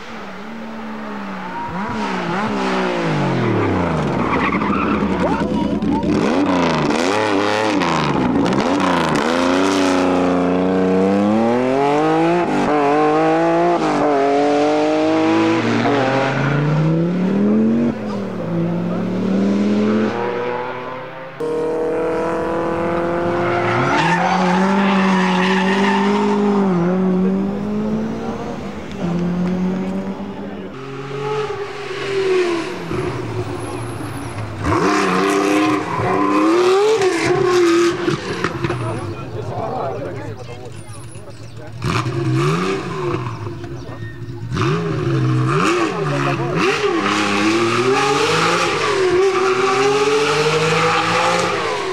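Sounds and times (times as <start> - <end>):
rally car engine accelerating: 0.0 - 51.9.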